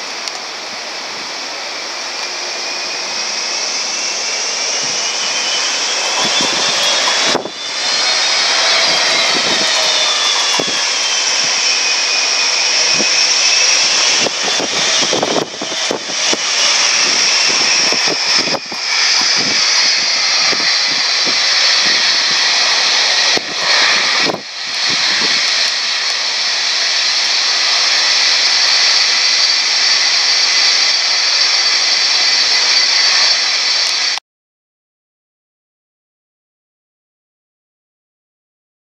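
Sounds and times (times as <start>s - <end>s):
jet engines whining: 0.0s - 34.2s.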